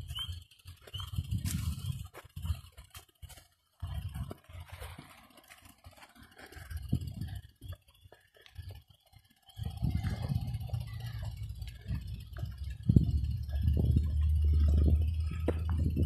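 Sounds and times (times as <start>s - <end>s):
wind rumbling on microphone: 0.0s - 5.1s, 6.4s - 8.9s, 9.5s - 16.0s.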